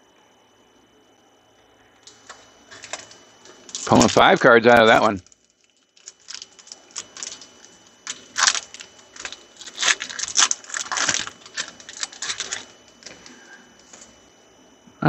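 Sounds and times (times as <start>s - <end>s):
foil wrapper crinkling: 2.0s - 14.2s.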